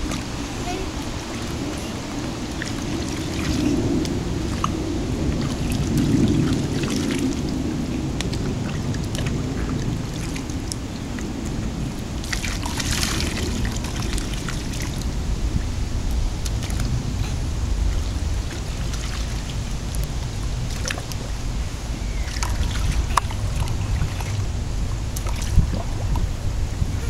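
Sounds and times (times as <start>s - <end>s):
small splashes: 0.0s - 26.4s
steady low rumble: 0.0s - 27.0s
water trickling and sloshing: 0.0s - 27.0s.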